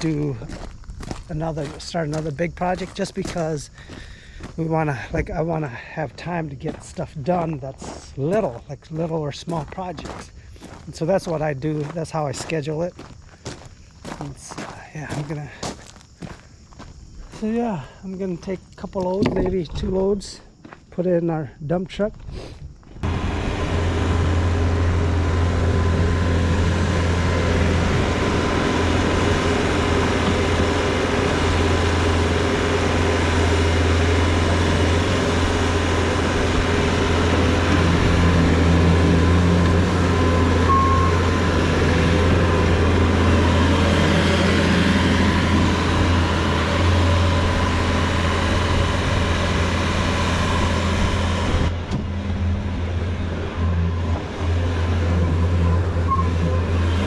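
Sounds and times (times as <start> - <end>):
truck engine running: 0.0 - 13.1, 23.0 - 57.0
road noise: 0.0 - 21.1, 22.0 - 57.0.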